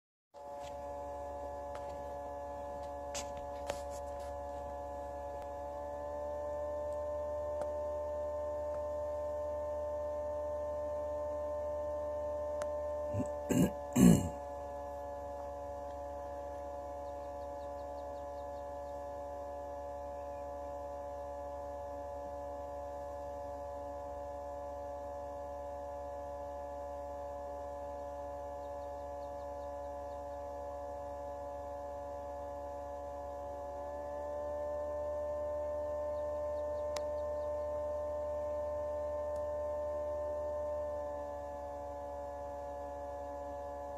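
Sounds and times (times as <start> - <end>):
higher electric hum: 0.4 - 43.9
incubator motor hum: 0.4 - 43.9.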